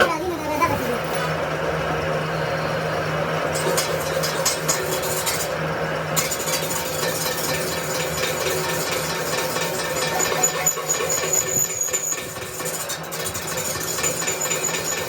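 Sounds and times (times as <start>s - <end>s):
machine humming and rattling: 0.0s - 15.0s.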